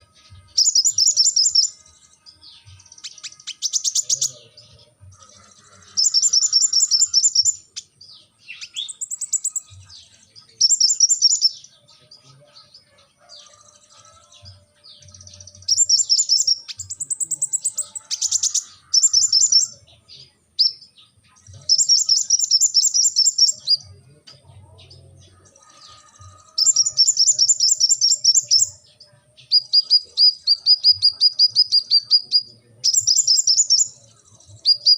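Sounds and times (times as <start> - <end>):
bird trilling song: 0.0 - 34.9.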